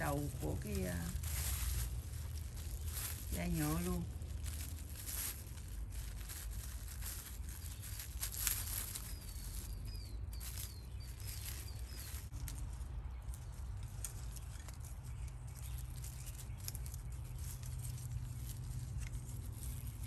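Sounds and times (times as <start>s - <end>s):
plastic sheet rustling: 0.0s - 20.0s.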